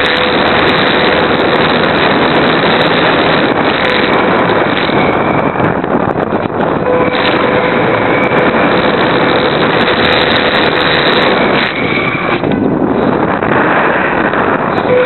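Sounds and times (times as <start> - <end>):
model plane motor whine: 0.0 - 15.0
wind rushing over microphone: 0.0 - 15.0.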